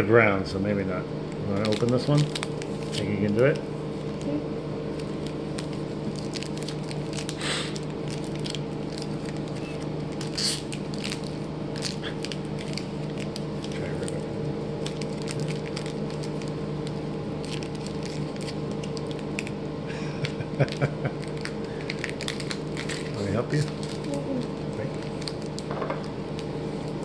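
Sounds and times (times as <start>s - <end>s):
plastic wrapper tearing: 1.4s - 3.6s, 4.9s - 14.2s, 14.8s - 19.6s, 20.6s - 27.0s
plastic wrapper crinkling: 1.4s - 4.3s, 4.9s - 14.2s, 14.8s - 19.6s, 20.6s - 27.0s.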